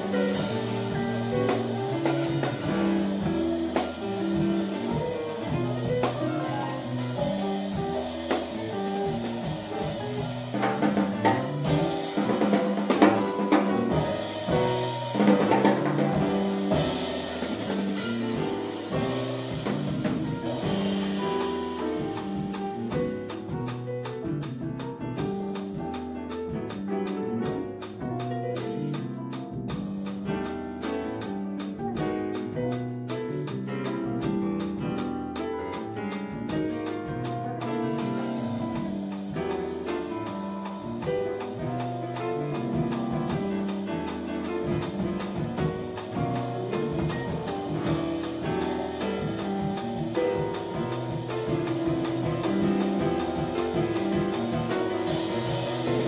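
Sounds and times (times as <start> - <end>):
drum kit: 0.0 - 56.0
jazz band playing: 0.0 - 56.0.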